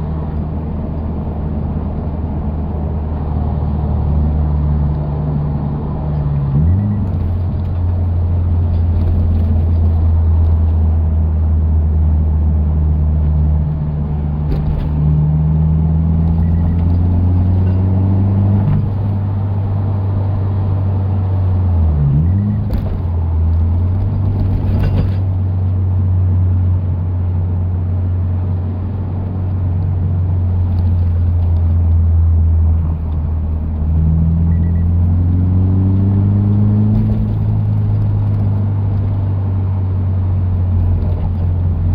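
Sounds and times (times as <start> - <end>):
car engine drone from inside cabin: 0.0 - 41.9.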